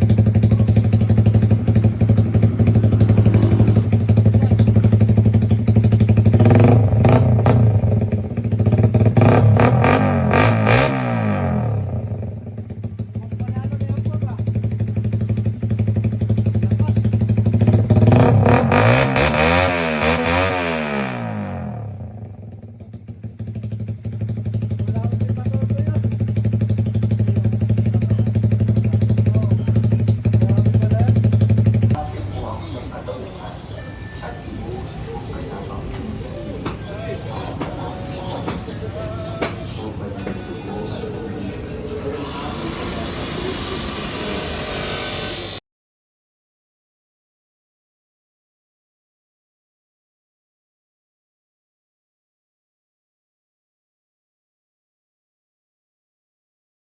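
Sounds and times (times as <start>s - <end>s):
motorcycle engine idling and revving: 0.0s - 45.6s.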